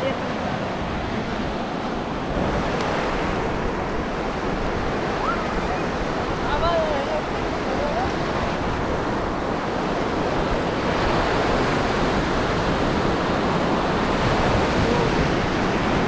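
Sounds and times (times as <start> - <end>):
surf breaking on shore: 0.0 - 16.0.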